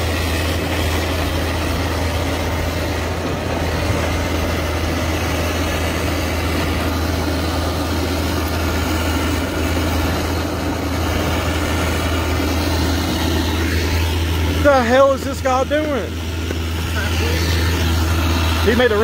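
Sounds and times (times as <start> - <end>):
diesel excavator engine running: 0.0 - 19.0.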